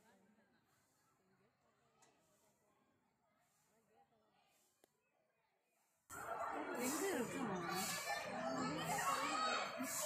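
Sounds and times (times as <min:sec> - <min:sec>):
distant children chattering: 0:00.6 - 0:10.0.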